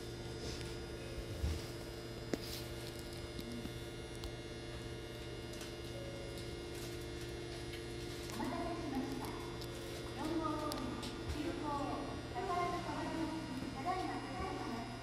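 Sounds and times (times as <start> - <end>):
train car electrical hum: 0.0 - 15.0.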